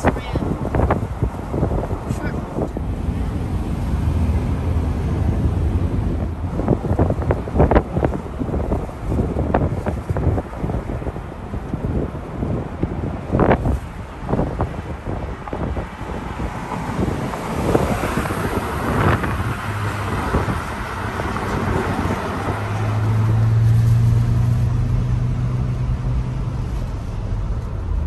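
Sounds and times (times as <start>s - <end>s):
car road noise: 0.0s - 28.0s
wind buffeting at car window: 0.0s - 28.0s.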